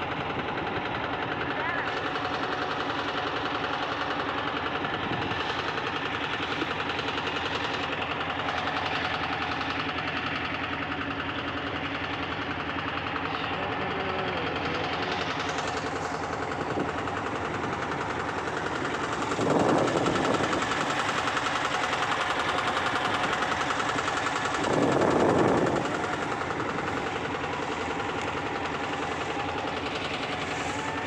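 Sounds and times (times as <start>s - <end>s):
motorboat engine chugging: 0.0s - 31.0s.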